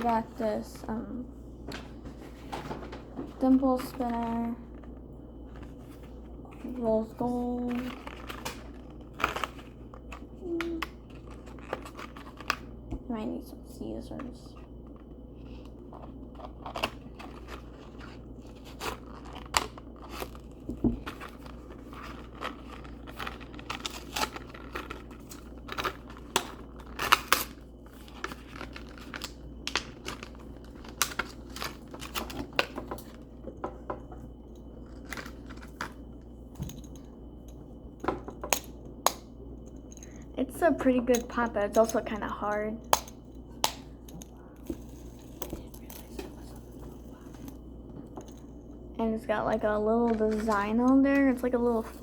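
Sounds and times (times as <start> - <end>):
crinkles and sharp snaps: 2.5 - 13.0, 14.2 - 40.3, 41.1 - 48.8.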